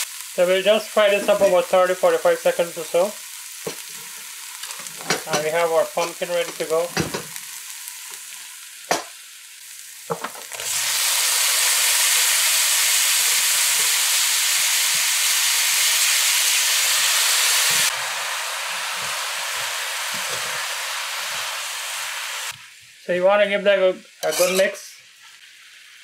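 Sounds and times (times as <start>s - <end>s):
oil sizzling: 0.0s - 26.0s.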